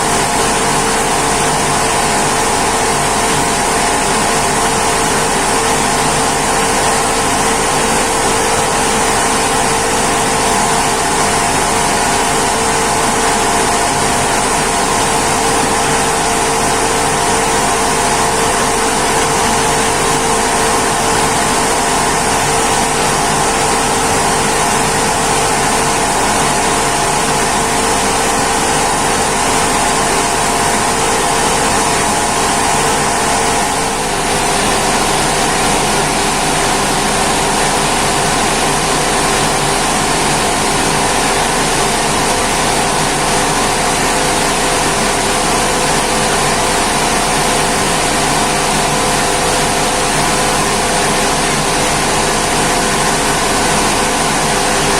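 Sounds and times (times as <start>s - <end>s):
mill machinery humming: 0.0s - 54.9s.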